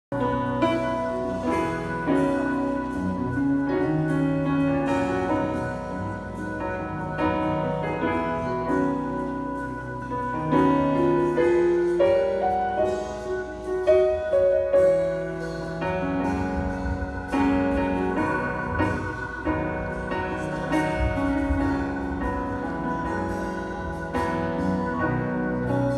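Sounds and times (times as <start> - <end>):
piano music: 0.1 - 25.9.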